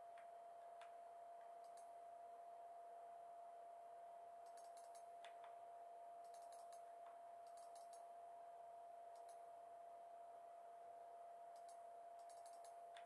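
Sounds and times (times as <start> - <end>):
steady faint tone: 0.0 - 13.0.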